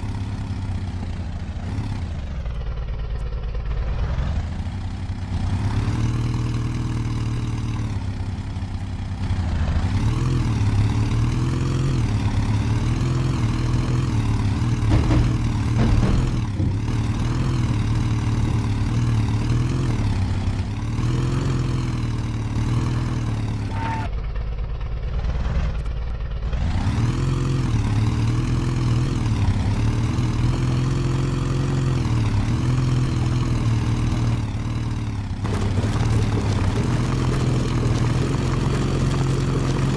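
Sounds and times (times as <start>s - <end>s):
off-road vehicle engine under load: 0.0s - 39.9s.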